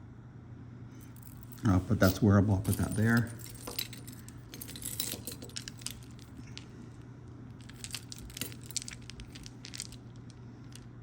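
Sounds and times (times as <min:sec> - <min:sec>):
jewelry clinking and jangling: 0:01.0 - 0:11.0.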